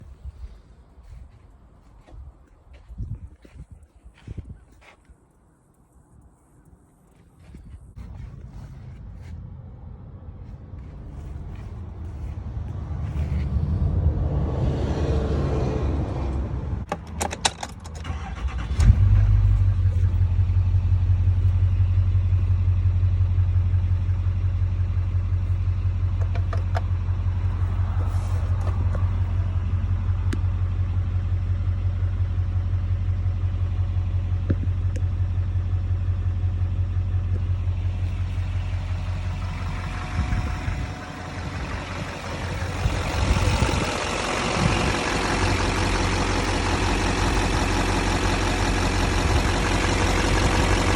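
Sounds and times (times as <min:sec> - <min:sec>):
diesel engine cranking and idling: 0:00.0 - 0:05.0, 0:07.4 - 0:50.9.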